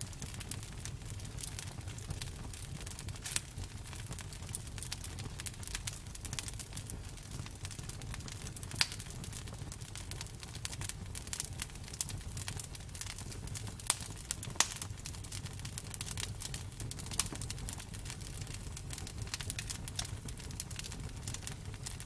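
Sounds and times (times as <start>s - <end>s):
low steady fire rumble: 0.0s - 22.0s
wood fire crackling and popping: 0.0s - 22.0s.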